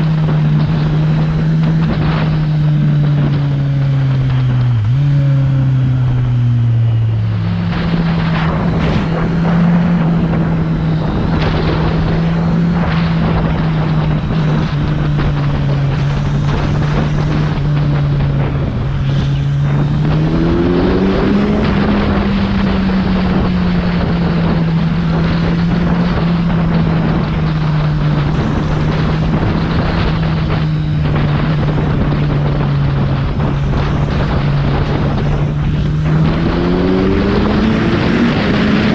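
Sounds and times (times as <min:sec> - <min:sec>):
motorcycle engine cruising: 0:00.0 - 0:38.9
wind rushing over microphone: 0:00.0 - 0:38.9.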